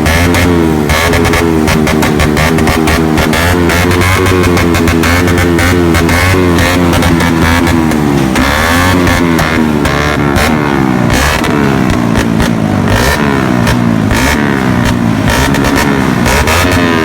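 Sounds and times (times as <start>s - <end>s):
engine revving in quick blips: 0.0s - 17.0s.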